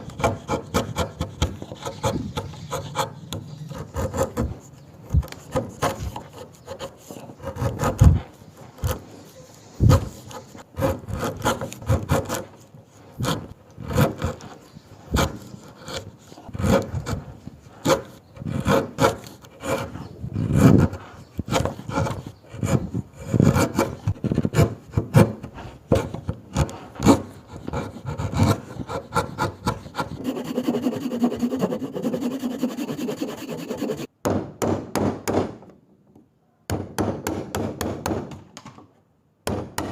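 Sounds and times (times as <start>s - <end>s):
wood scraping strokes: 0.0s - 34.1s.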